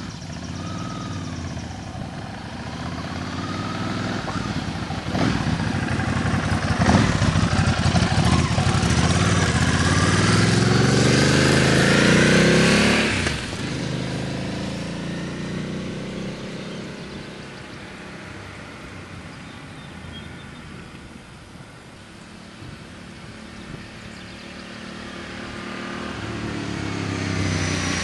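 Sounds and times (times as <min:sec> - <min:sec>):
motorcycle accelerating past: 0:00.0 - 0:20.9, 0:22.4 - 0:28.0.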